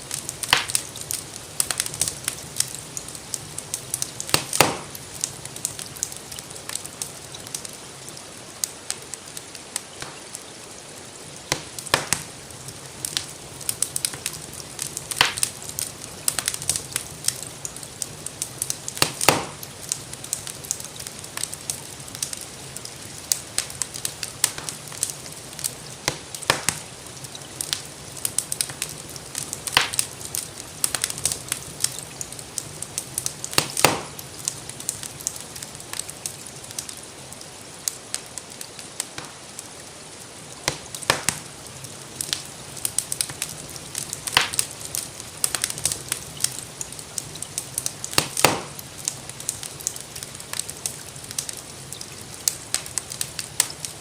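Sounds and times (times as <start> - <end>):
fire pops and snaps: 0.0 - 54.0
gentle rain hiss: 0.0 - 54.0
wood fire crackling: 0.0 - 54.0.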